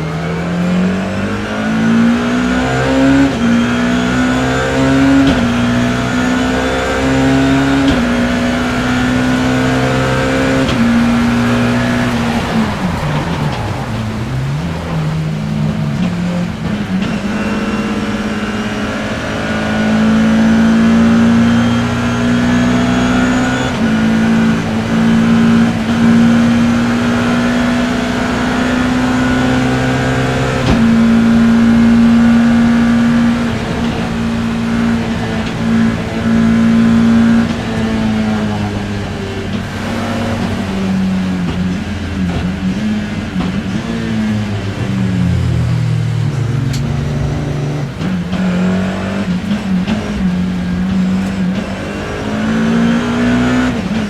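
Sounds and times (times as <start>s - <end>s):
race car engine revving under load: 0.0s - 54.0s.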